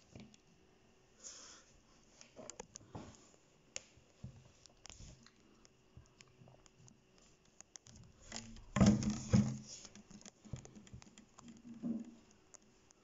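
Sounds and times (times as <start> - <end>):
light clicks and scratches: 1.9 - 13.0.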